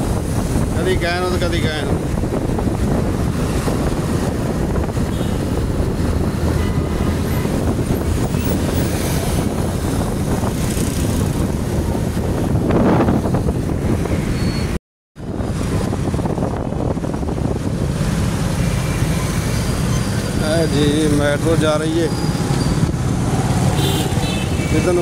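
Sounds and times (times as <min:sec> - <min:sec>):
road traffic noise: 0:00.0 - 0:25.0
wind rumbling on microphone: 0:00.0 - 0:25.0
loud vehicle passing: 0:02.2 - 0:14.4, 0:17.0 - 0:25.0.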